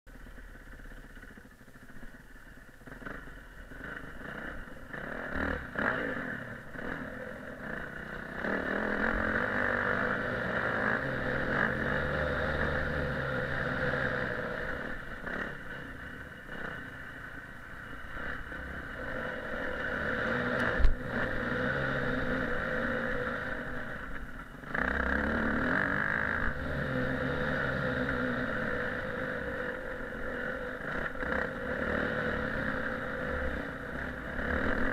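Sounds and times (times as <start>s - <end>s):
motocross bike engine revving: 2.8s - 34.9s.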